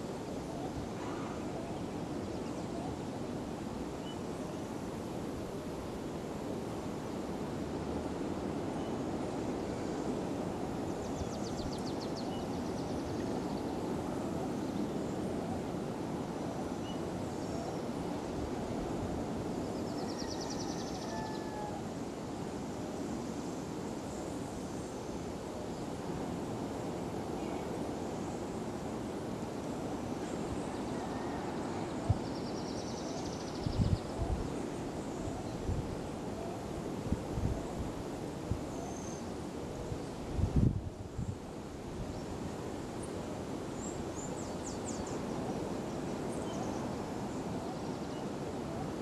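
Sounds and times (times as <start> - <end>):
low rushing wind noise: 0.0 - 49.0.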